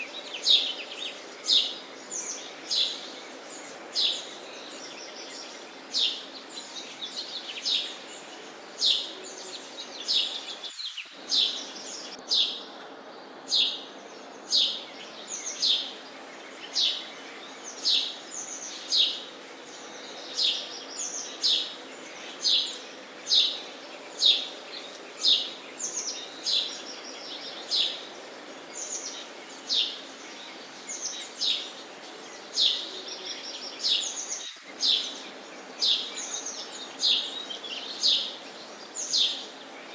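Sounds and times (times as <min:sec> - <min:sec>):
sparrows chirping: 0:00.0 - 0:39.9
steady background hiss: 0:00.0 - 0:39.9.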